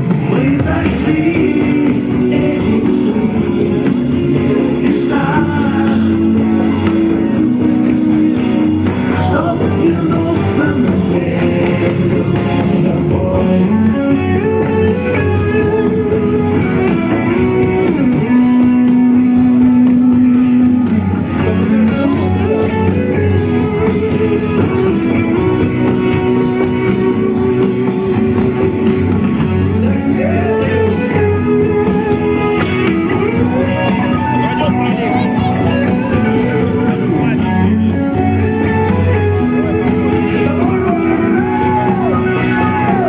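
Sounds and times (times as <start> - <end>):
guitar bending held notes: 0.0 - 43.0
instrumental rock music: 0.0 - 43.0.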